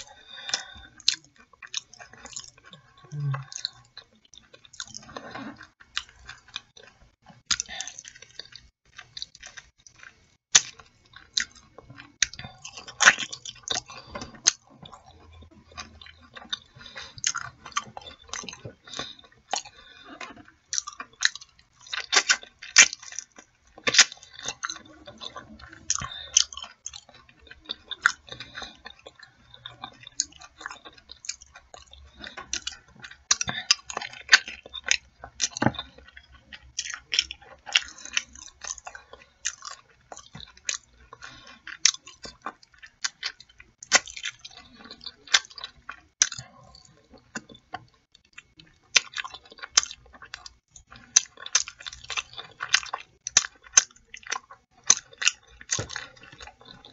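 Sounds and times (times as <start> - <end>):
person biting and chewing: 0.0 - 56.9
sharp clicks and mouth noises: 0.0 - 56.9.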